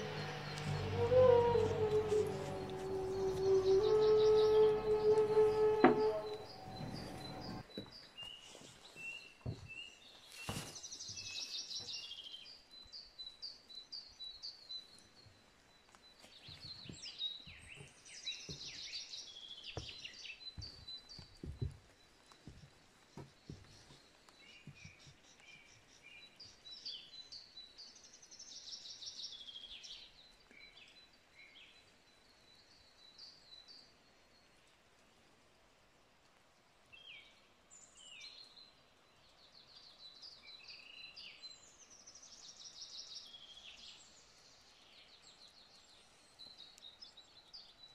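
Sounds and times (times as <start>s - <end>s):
faint songbirds chirping and trilling: 0.0s - 35.8s, 36.4s - 47.9s.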